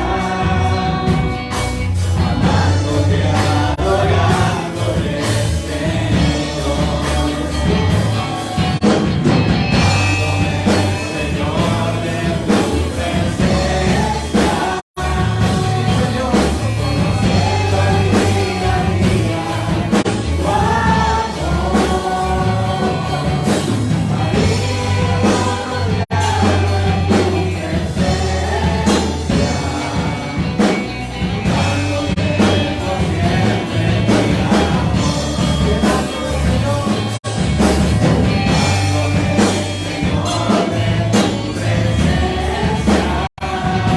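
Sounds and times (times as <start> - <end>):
band with bass line: 0.0 - 43.9
voices singing worship music: 0.0 - 43.9.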